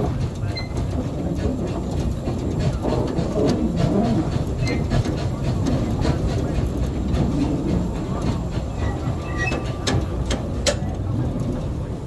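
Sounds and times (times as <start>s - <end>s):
steam locomotive rumbling: 0.0s - 12.0s.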